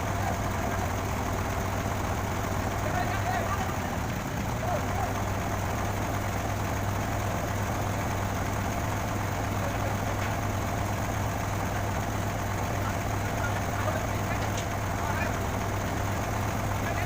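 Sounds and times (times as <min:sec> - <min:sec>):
crane engine idling: 0:00.0 - 0:17.0.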